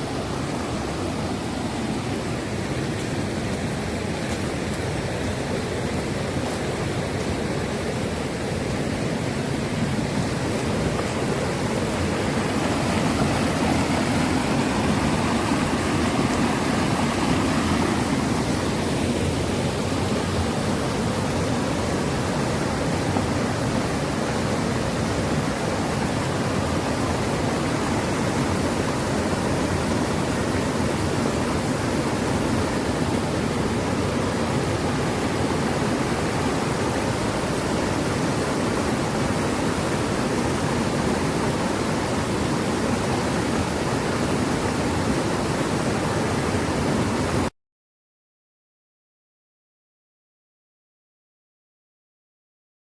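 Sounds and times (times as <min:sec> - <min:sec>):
stream rushing over rocks: 0:00.0 - 0:47.5.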